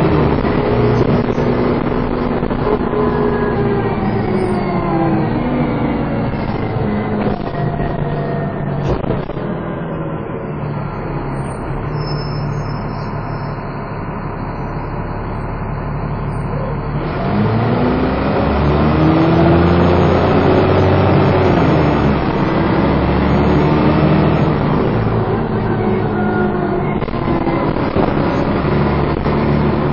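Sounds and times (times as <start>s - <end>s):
bus engine accelerating: 0.0s - 29.9s.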